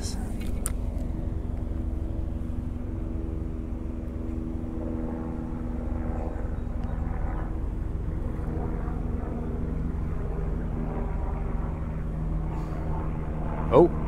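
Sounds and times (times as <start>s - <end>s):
distant propeller airplane droning: 0.0s - 14.0s.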